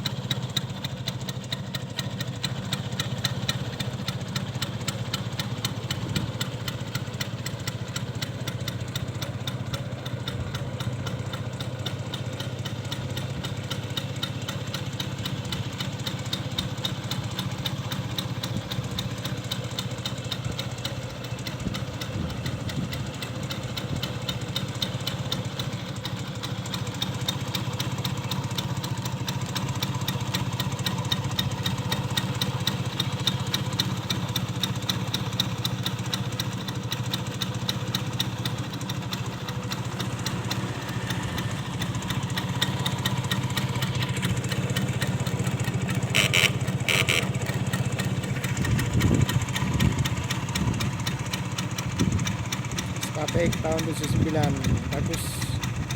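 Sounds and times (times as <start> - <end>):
scooter engine idling: 0.0 - 55.9.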